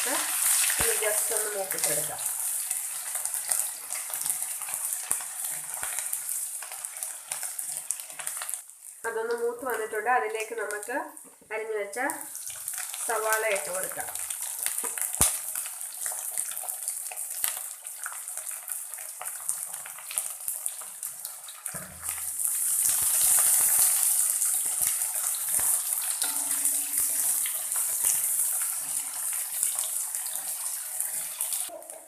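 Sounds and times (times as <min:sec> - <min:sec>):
onions sizzling in oil: 0:00.0 - 0:32.0.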